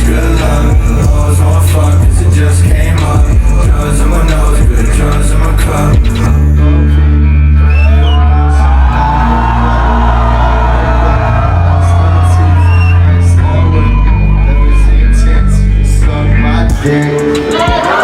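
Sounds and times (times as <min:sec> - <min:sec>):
crowd shouting and singing: 0:00.0 - 0:18.0
deep bass notes: 0:00.0 - 0:18.0
hip-hop song over sound system: 0:00.0 - 0:18.0.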